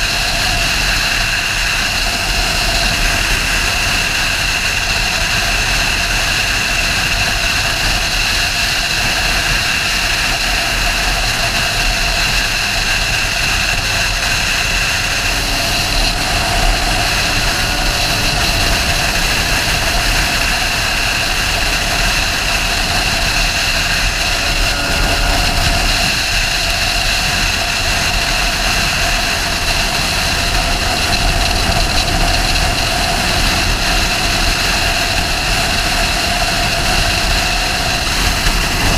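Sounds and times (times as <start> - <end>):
motorcycle engine steady note: 0.0 - 38.9
wind rush: 0.0 - 38.9.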